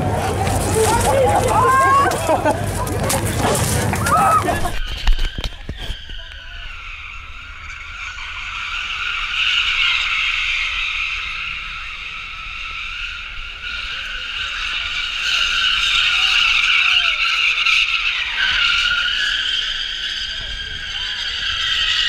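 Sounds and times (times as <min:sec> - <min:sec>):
car tyres squealing: 0:00.0 - 0:22.0.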